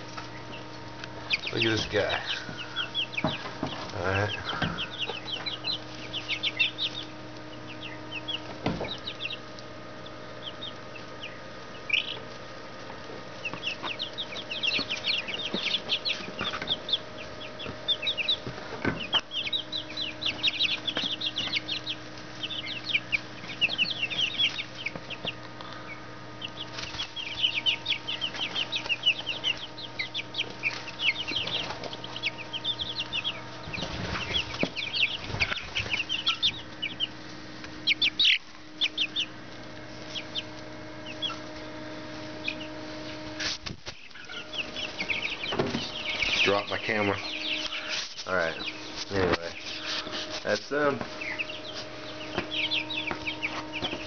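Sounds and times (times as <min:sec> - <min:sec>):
chicks peeping: 0:00.0 - 0:54.0
faint steady hum: 0:00.0 - 0:54.0.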